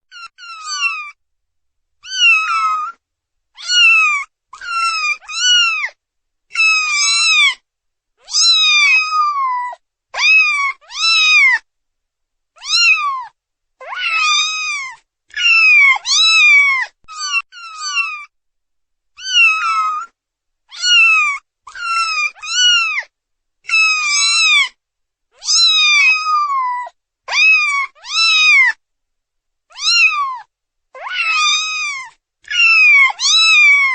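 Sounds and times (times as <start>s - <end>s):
kittens meowing: 0.1s - 1.2s, 2.0s - 3.0s, 3.6s - 7.6s, 8.2s - 11.6s, 12.6s - 18.3s, 19.2s - 23.1s, 23.7s - 24.8s, 25.4s - 28.8s, 29.7s - 33.9s.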